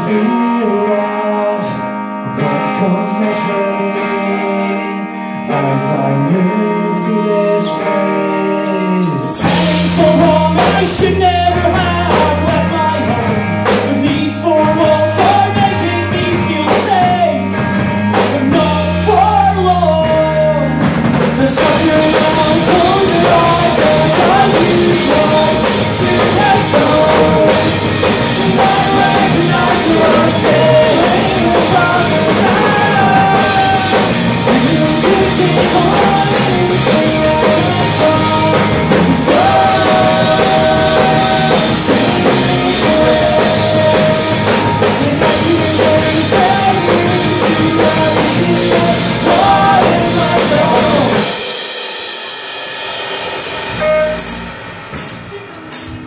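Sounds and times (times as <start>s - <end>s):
person singing: 0.0s - 51.5s, 53.4s - 56.0s
rock band playing live: 0.0s - 56.0s.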